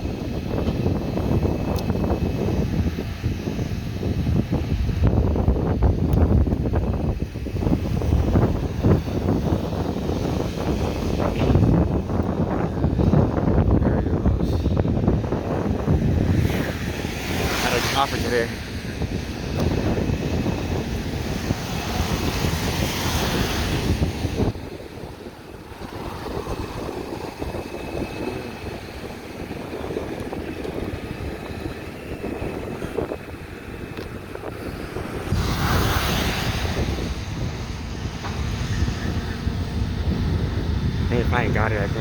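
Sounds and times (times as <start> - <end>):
road traffic passing: 0.0 - 42.0
wind buffeting the microphone: 0.0 - 42.0.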